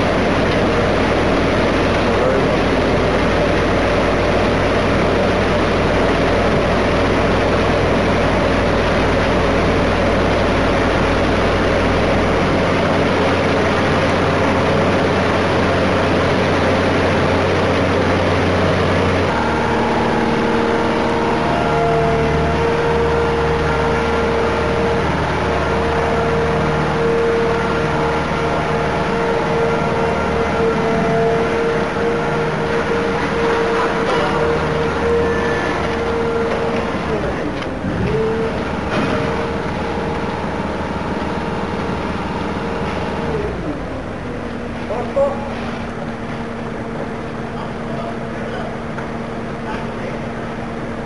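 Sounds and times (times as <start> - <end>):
paving machinery engines droning: 0.0 - 51.0.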